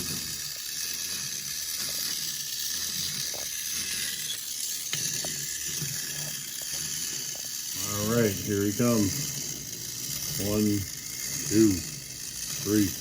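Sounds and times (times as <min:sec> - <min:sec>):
clockwork toy whirring: 0:00.0 - 0:13.0.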